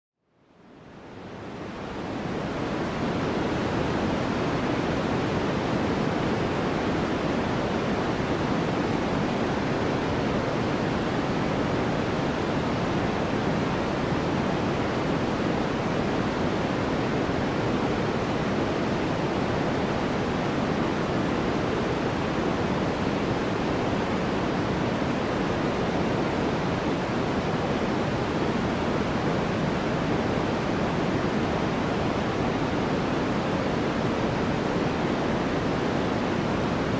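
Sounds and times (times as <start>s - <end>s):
low white noise: 0.2s - 36.9s.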